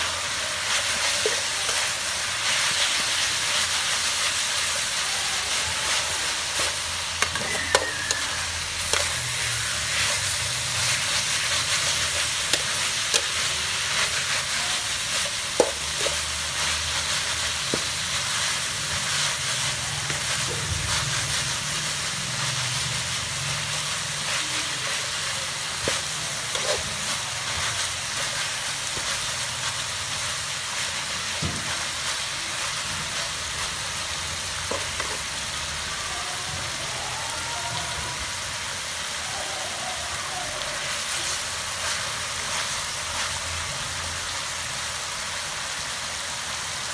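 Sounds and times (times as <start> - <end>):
food sizzling in hot oil: 0.0 - 46.9.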